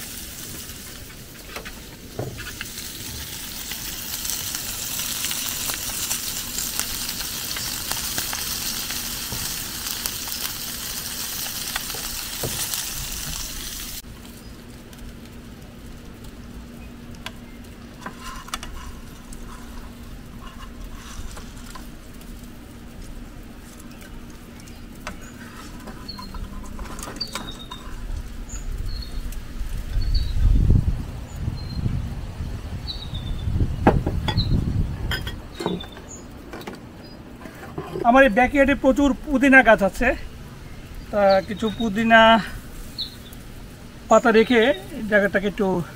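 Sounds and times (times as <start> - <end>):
fish sizzling in hot fat: 0.0 - 30.7, 38.1 - 45.9.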